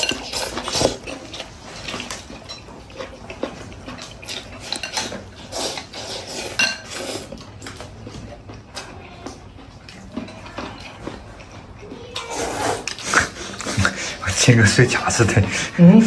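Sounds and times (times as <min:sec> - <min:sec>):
utensils clinking against a bowl: 0:00.0 - 0:15.7.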